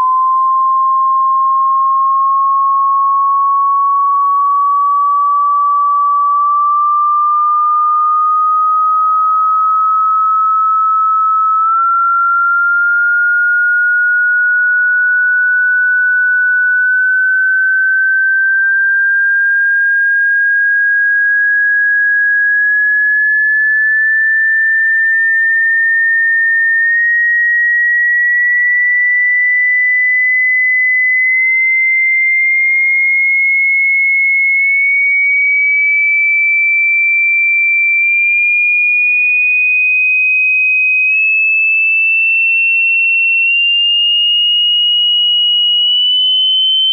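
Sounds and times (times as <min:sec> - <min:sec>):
sine tone sweeping upward: 0:00.0 - 0:46.9.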